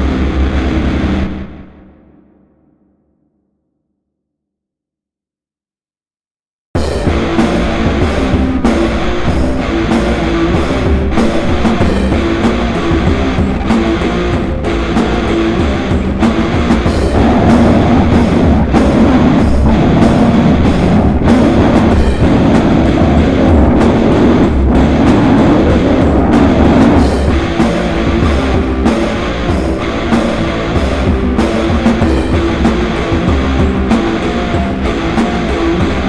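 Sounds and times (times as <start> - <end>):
extreme metal music: 0.0 - 1.9, 6.8 - 36.0.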